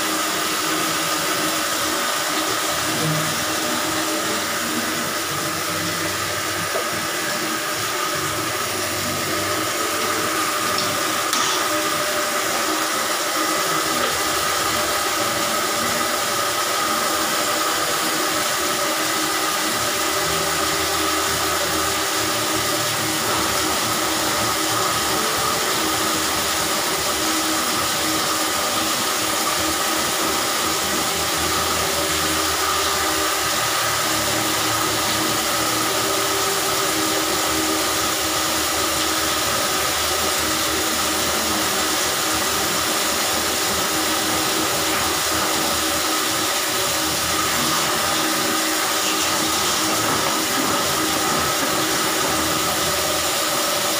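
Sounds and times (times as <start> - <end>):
drain-cleaning machine whirring: 0.0 - 53.9.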